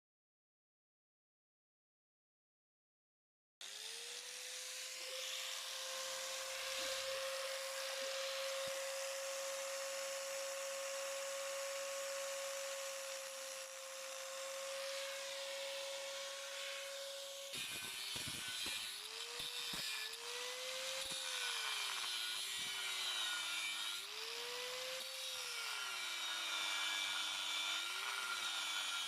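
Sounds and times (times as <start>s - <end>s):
power tool cutting steel: 3.6s - 29.0s.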